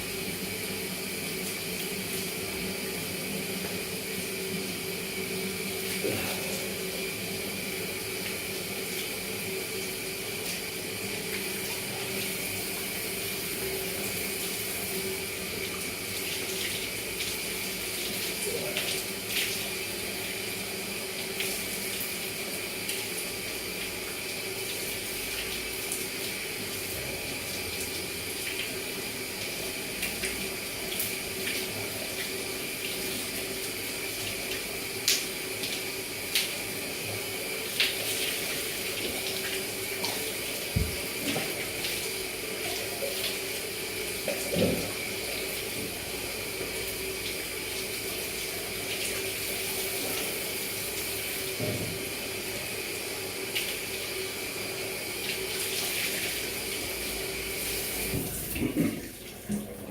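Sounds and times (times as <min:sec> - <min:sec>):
water running from a tap: 0:00.0 - 0:59.9.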